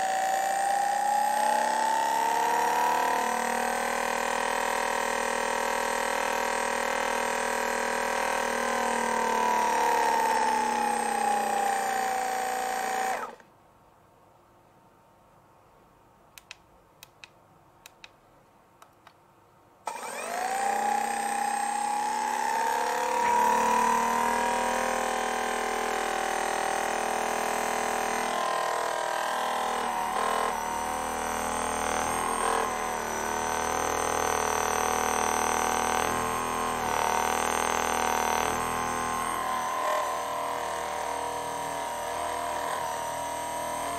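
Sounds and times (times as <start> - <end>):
massage gun motor whine: 0.0 - 13.4, 19.9 - 43.9.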